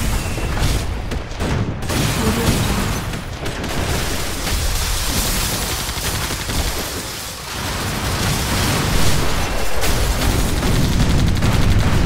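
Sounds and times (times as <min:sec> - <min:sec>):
dense gunfire: 0:00.1 - 0:12.0
machine-gun burst: 0:00.6 - 0:12.0.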